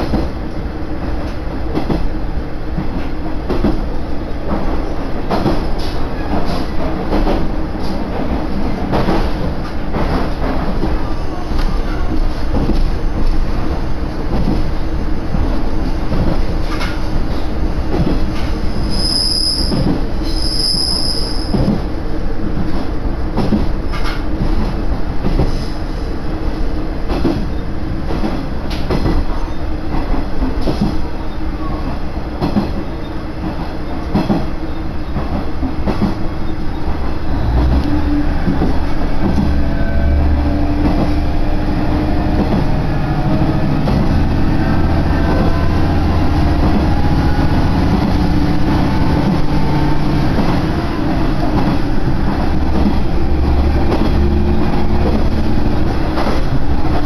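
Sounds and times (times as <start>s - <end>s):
train wheels clicking over rail joints: 0.0s - 20.7s, 21.3s - 25.9s, 27.0s - 31.1s, 31.8s - 57.0s
train drive humming: 0.0s - 57.0s.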